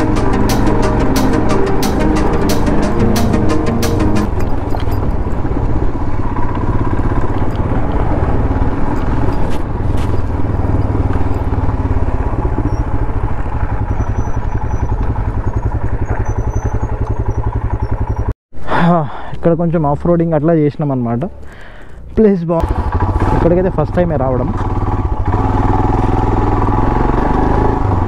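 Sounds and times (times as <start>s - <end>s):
motorcycle engine running: 0.0s - 18.4s, 22.6s - 28.0s.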